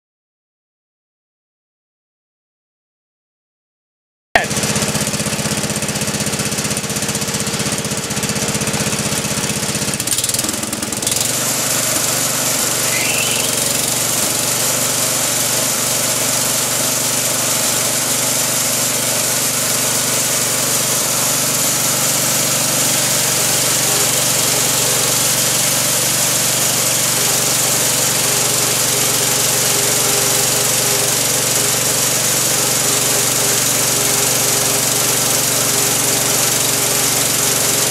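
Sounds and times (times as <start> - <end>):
sawmill engine droning: 4.5 - 37.9.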